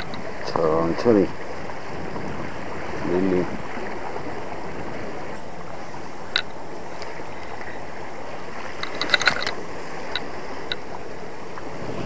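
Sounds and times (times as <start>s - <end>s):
sea: 0.0s - 12.0s
wind: 0.0s - 12.0s.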